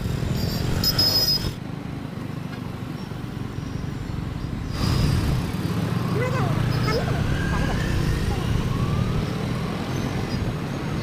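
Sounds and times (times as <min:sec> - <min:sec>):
low rumble of traffic engines: 0:00.0 - 0:11.0.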